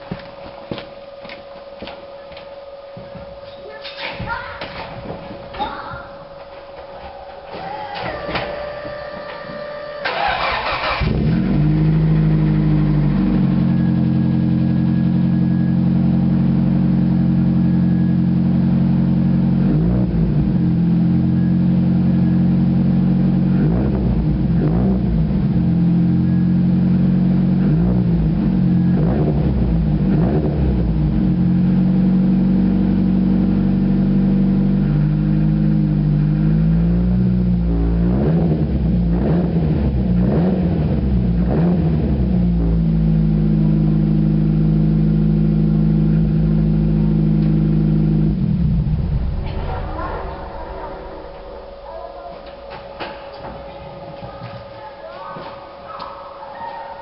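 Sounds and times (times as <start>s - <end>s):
engine throttle blips: 0.0s - 57.0s
car engine starting and idling: 6.2s - 57.0s.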